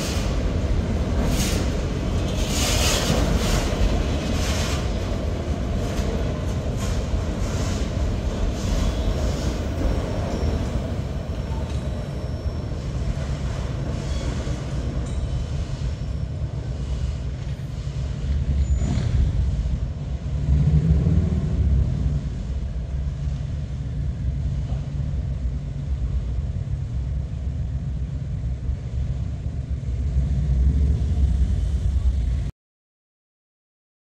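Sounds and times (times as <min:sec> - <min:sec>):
freight train rumbling: 0:00.0 - 0:32.5.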